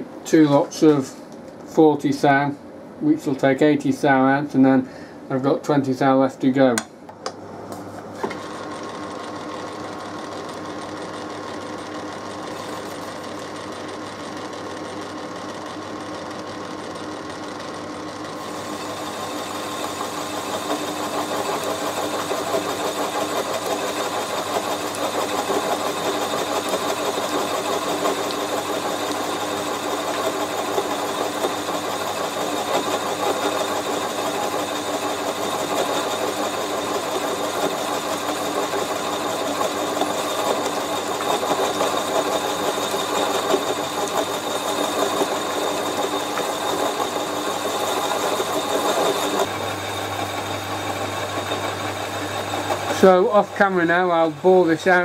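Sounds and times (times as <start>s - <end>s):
lathe motor hum: 7.2s - 55.0s.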